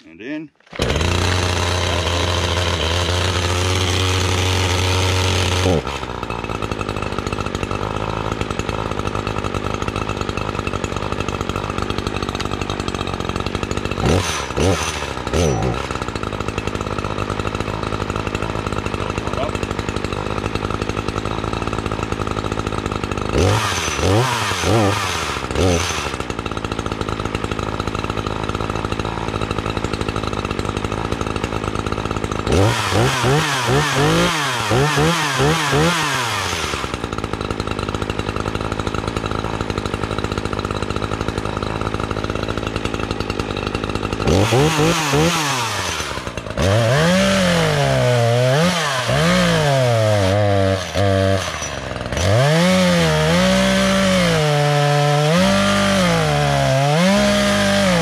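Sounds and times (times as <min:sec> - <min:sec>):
chainsaw cutting log: 0:00.0 - 0:58.0
chainsaw idling and revving: 0:00.0 - 0:58.0.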